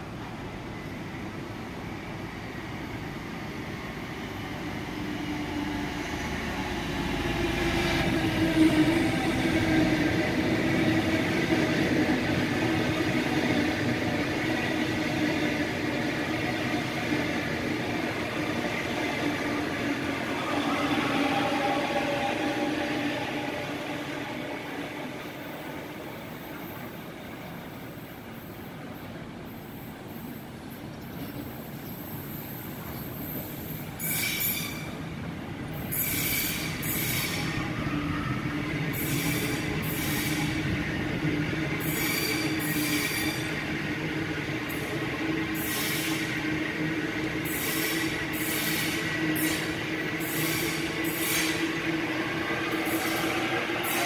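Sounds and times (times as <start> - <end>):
electric train whine: 0.0 - 30.1, 32.2 - 54.0.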